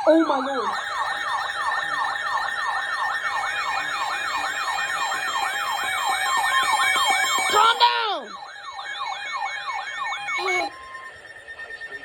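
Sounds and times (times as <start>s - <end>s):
electronic yelp siren: 0.0s - 12.0s.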